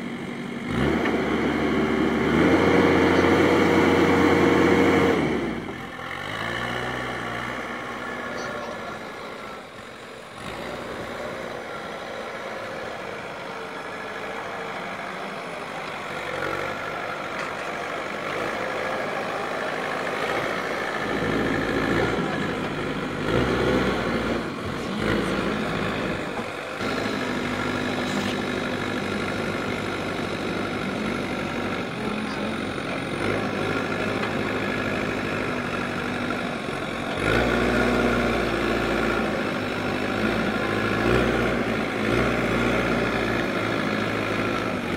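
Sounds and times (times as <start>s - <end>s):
backhoe diesel engine working: 0.0s - 44.9s.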